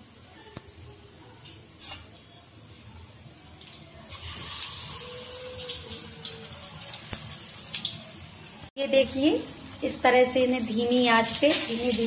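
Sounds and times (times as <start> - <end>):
chillies frying in hot oil: 0.0 - 12.0.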